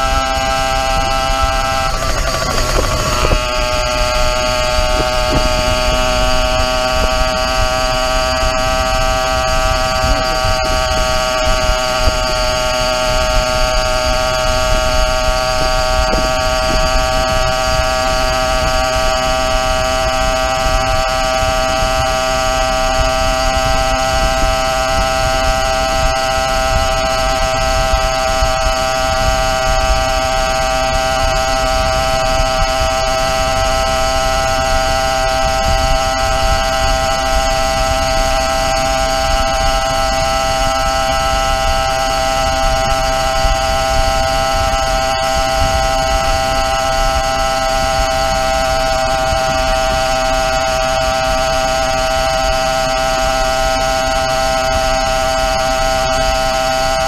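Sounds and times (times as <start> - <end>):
two-stroke engine running: 0.0 - 57.0
wind rumble on microphone: 0.0 - 57.0.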